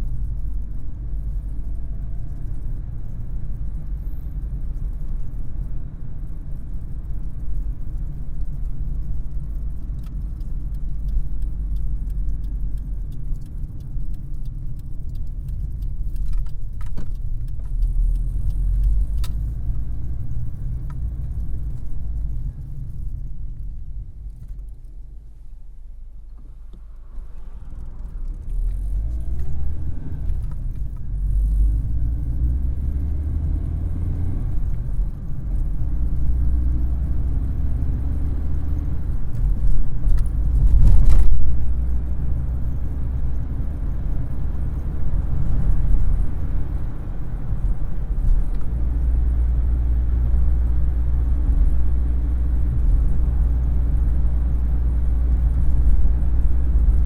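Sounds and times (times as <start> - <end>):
car engine rumble from inside: 0.0 - 57.0.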